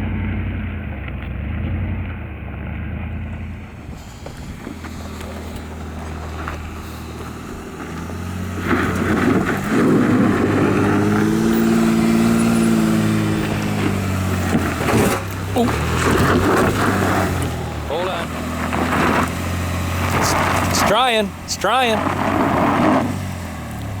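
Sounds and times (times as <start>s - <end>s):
vehicle engine working under load: 0.0s - 24.0s.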